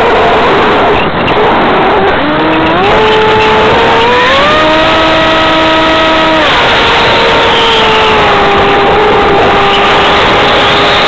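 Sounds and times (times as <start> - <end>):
electric motor and propeller whine: 0.0 - 11.0
wind rush on microphone: 0.0 - 11.0.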